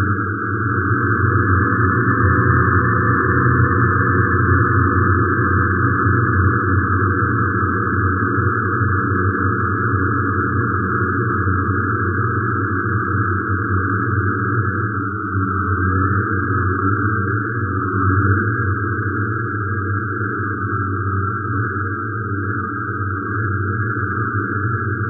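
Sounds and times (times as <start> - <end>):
dense low synthesizer drones: 0.0 - 25.0.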